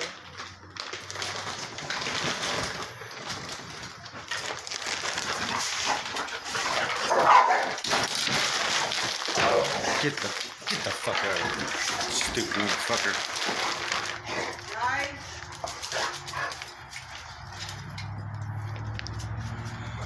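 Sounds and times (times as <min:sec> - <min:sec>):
dogs barking and whining: 0:03.1 - 0:12.7, 0:13.3 - 0:20.0.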